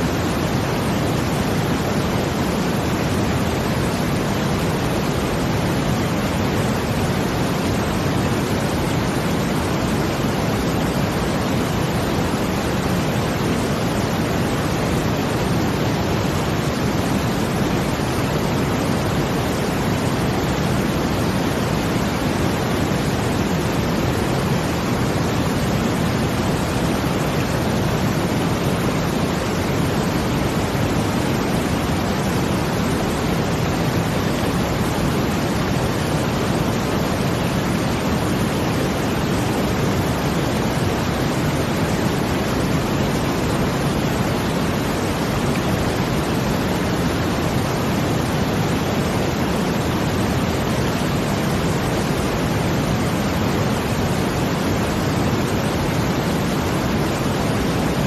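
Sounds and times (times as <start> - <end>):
brown noise: 0.0 - 58.0.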